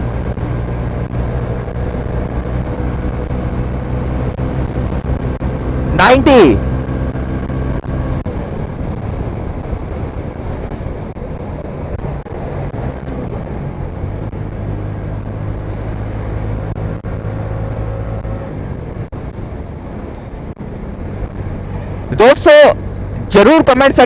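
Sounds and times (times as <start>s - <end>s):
wind rush on microphone: 0.0s - 22.2s
motorcycle engine humming: 0.0s - 24.0s.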